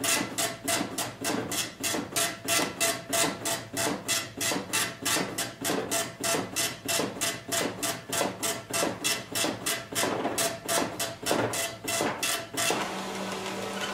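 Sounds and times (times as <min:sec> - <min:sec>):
dot-matrix printer printing: 0:00.0 - 0:13.9.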